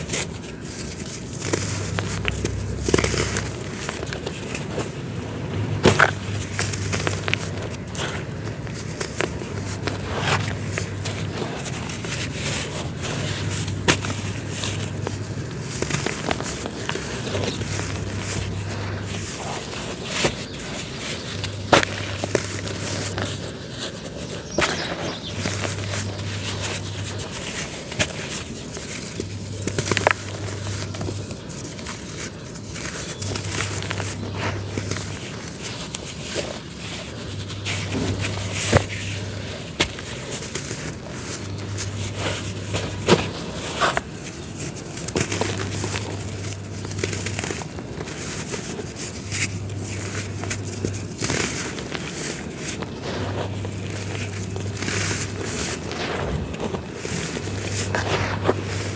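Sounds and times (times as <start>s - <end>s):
earthy material crunching by hand: 0.0s - 58.9s.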